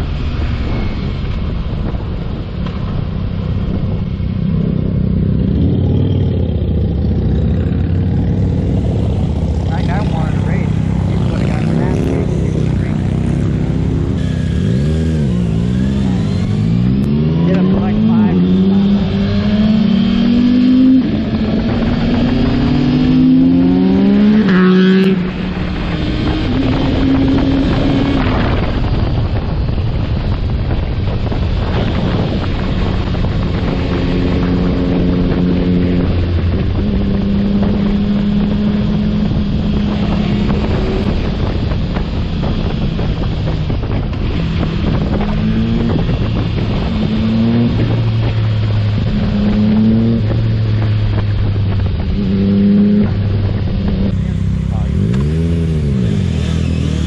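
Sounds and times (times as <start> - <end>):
motorcycle engine accelerating: 0.0 - 57.0
wind noise: 0.0 - 57.0.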